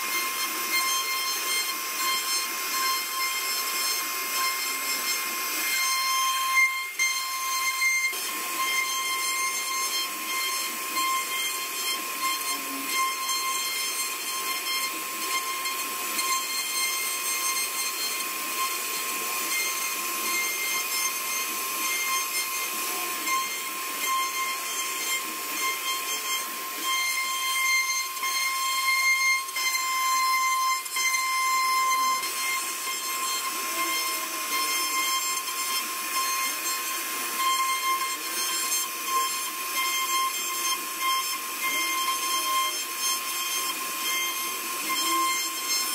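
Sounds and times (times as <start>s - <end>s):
hiss of cutting wood: 0.0s - 45.9s
router spindle whine: 0.0s - 45.9s.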